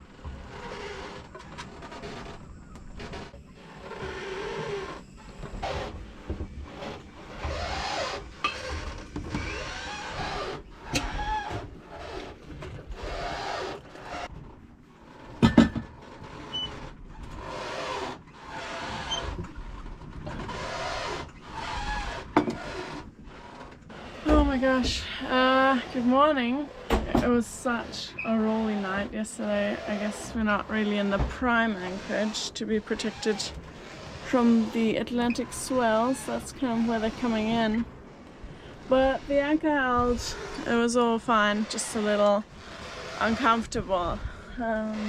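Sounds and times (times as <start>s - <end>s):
short squeaks: 0.0s - 14.5s, 15.1s - 45.0s
yacht creaking and rubbing: 0.0s - 45.0s.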